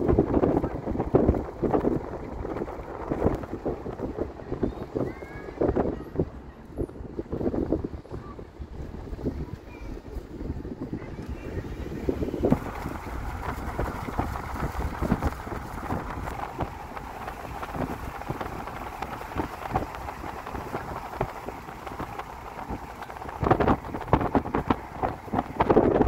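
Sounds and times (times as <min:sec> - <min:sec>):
engine and tyres rumbling: 0:00.0 - 0:26.0
wind noise: 0:00.0 - 0:26.0.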